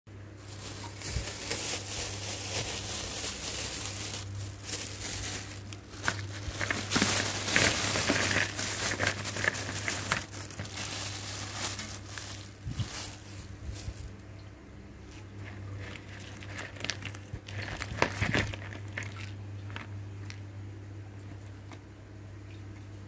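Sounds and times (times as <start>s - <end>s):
plastic rustling and crackling: 0.4s - 14.2s, 15.1s - 20.4s.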